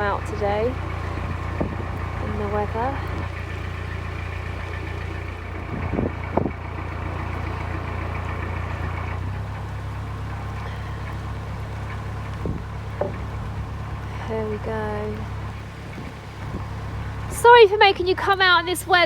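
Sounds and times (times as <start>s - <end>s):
diesel engine running at low revs: 0.0s - 19.0s.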